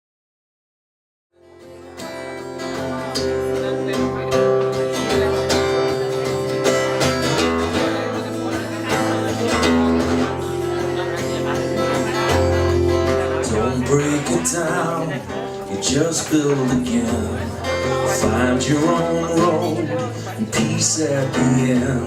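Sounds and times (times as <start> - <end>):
strummed acoustic guitar: 1.4 - 22.0.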